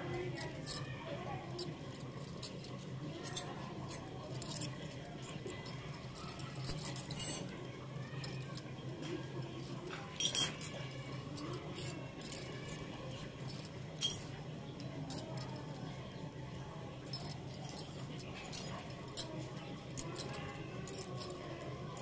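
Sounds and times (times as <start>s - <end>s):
toy metal utensils clinking: 0.1s - 8.6s, 9.5s - 15.6s, 17.1s - 22.0s.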